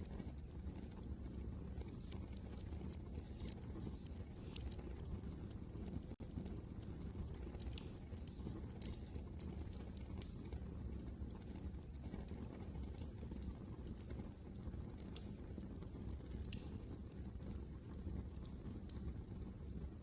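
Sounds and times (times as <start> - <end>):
fireplace crackling: 0.0 - 20.0
low rumble of wind: 0.0 - 20.0.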